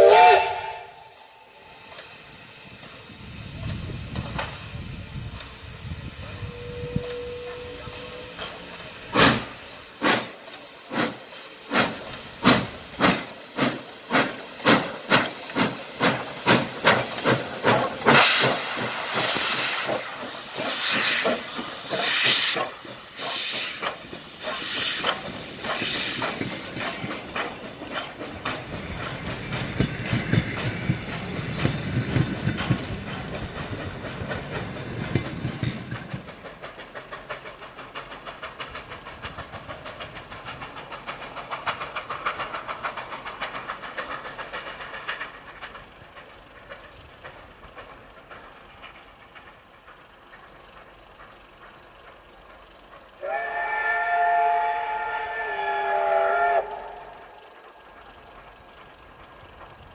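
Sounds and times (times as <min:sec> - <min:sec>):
steam hissing: 0:00.0 - 0:59.9
steam locomotive exhaust chuffs: 0:00.0 - 0:59.9
train wheels clacking on rail joints: 0:01.8 - 0:55.7, 0:56.6 - 0:59.9.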